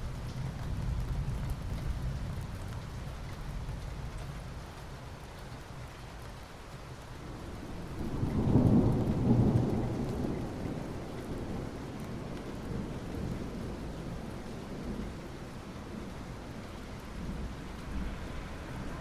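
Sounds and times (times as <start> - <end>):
low rumble of thunder: 0.0 - 5.3, 7.0 - 19.0
soft rain on asphalt: 0.0 - 19.0.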